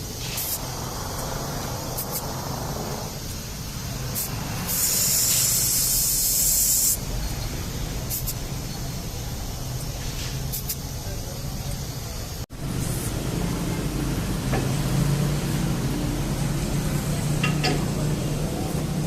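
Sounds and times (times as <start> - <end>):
compressed air hissing: 0.0 - 19.0.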